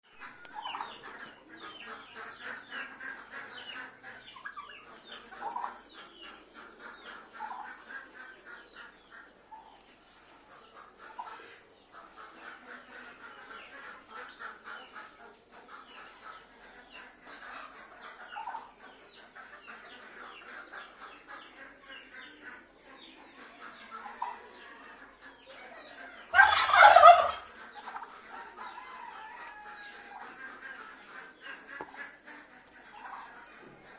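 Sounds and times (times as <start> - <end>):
turkeys gobbling: 0.2 - 9.9, 10.6 - 33.9.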